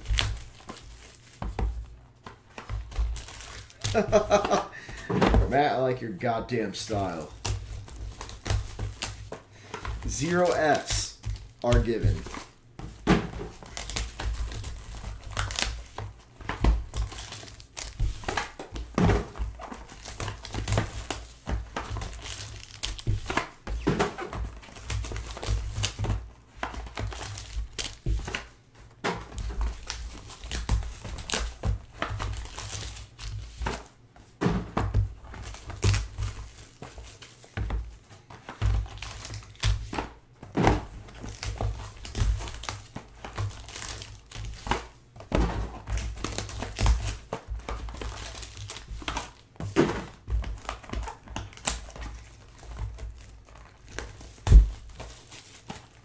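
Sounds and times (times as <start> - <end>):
foil packs crinkling: 0.0 - 2.0, 2.6 - 34.0, 34.9 - 56.0
boxes thudding: 2.5 - 5.7, 6.9 - 15.0, 15.8 - 51.3.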